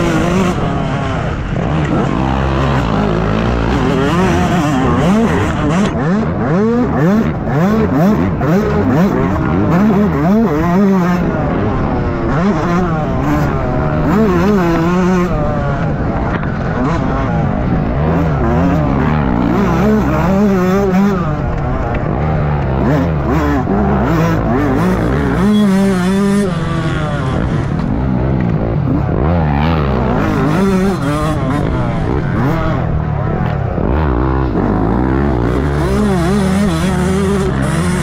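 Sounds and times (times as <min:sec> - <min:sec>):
motocross bike engine revving: 0:00.0 - 0:38.0.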